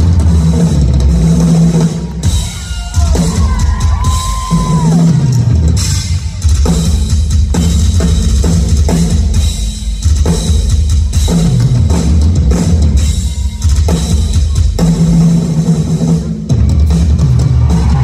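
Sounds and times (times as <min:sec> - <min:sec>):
fast bass drum strokes: 0:00.0 - 0:18.0.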